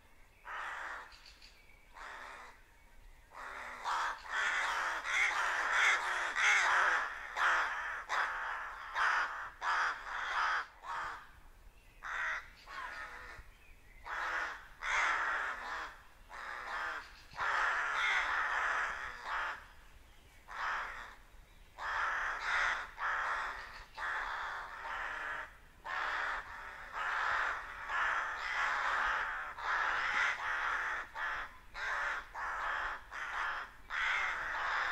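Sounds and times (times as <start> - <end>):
rooks cawing: 0.5 - 1.2, 2.0 - 2.6, 3.3 - 11.4, 12.0 - 19.8, 20.5 - 21.2, 21.8 - 34.9.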